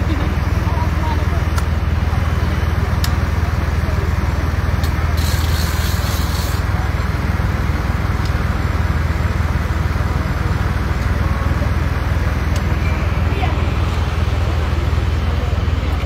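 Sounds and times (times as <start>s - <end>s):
tractor diesel engines running: 0.0s - 16.0s.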